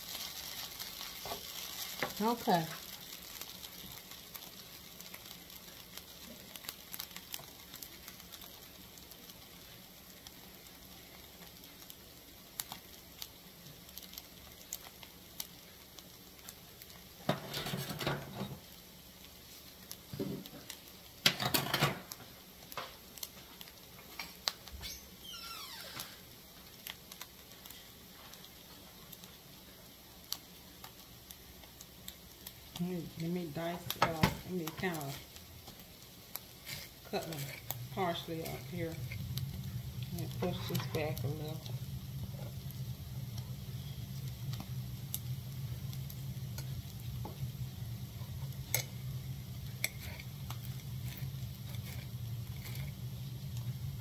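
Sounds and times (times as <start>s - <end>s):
food sizzling in skillet: 0.0s - 54.0s.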